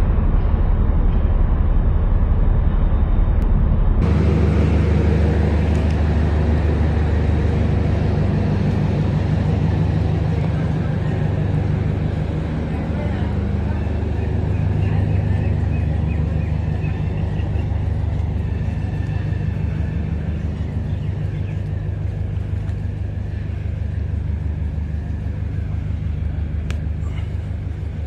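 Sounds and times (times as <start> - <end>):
diesel engine idling: 4.0 - 28.0.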